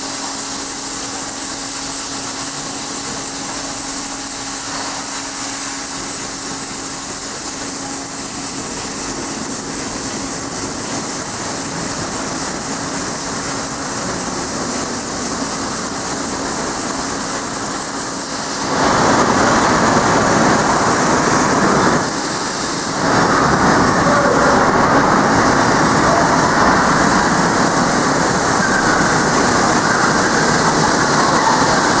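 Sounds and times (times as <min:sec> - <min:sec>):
drilling machine running: 0:00.0 - 0:32.0.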